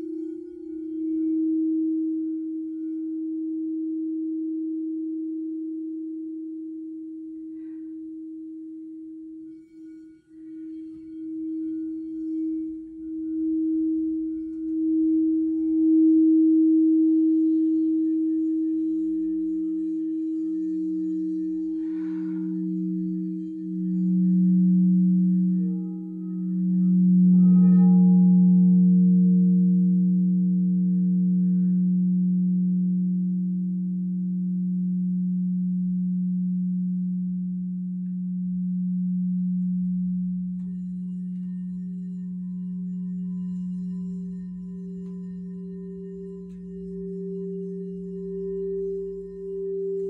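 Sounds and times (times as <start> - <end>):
lower-pitched singing bowl: 0.0 - 50.0
singing bowl steady tone: 0.0 - 50.0.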